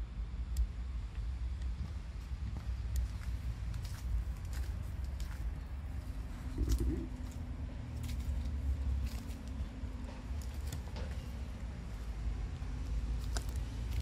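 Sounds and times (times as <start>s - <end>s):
steady low rumble: 0.0s - 14.0s
light footsteps on a path: 0.6s - 14.0s.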